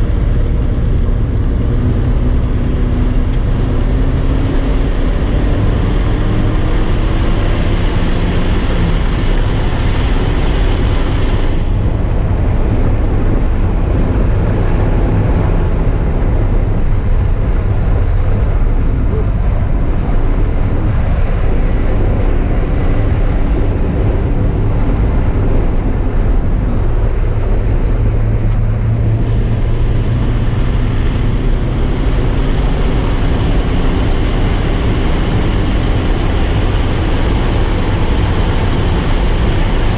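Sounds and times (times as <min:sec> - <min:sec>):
car engine running hard: 0:00.0 - 0:39.9
wind and road noise: 0:00.0 - 0:39.9.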